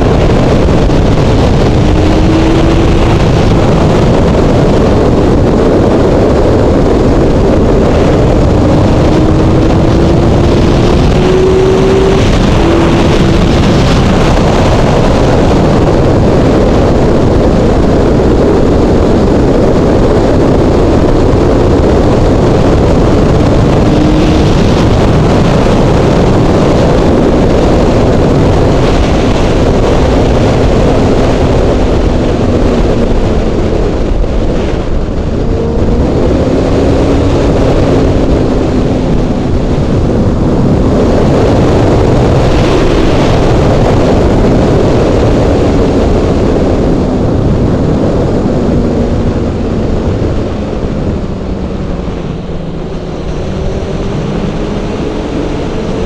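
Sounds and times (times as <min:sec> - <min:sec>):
motorcycle engine: 0:00.0 - 0:56.0
wind rushing on microphone: 0:00.0 - 0:56.0.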